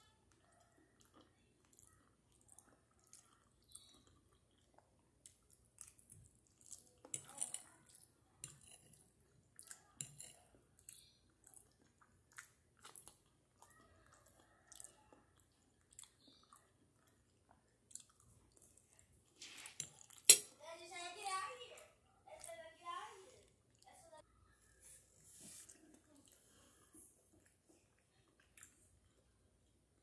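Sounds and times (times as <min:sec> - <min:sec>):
person chewing spaghetti: 0:00.0 - 0:20.3, 0:25.6 - 0:30.0.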